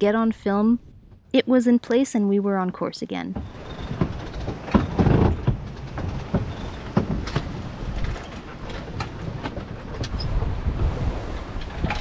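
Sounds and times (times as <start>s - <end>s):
wind rumbling on microphone: 0.0s - 1.4s, 3.4s - 12.0s.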